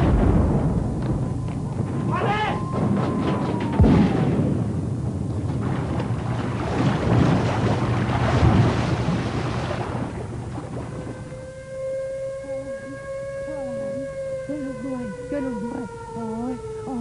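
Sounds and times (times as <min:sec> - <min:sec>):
water splashing and churning: 0:00.0 - 0:13.6.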